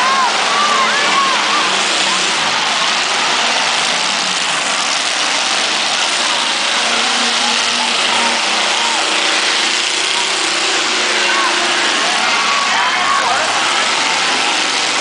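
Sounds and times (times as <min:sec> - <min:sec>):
car engines revving: 0:00.0 - 0:15.0
crowd din: 0:00.0 - 0:15.0.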